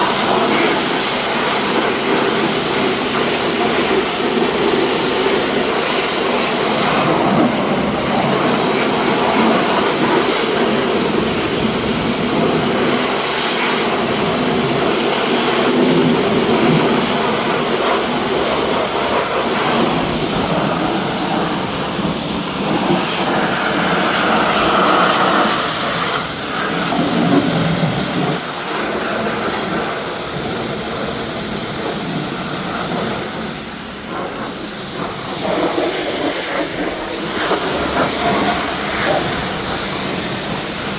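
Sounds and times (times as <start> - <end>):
car wash equipment hissing: 0.0 - 40.9.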